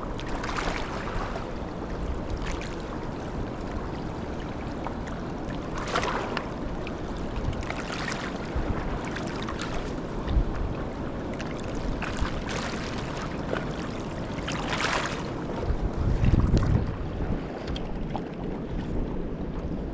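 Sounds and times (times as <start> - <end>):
louder water swishes: 0.0 - 19.4.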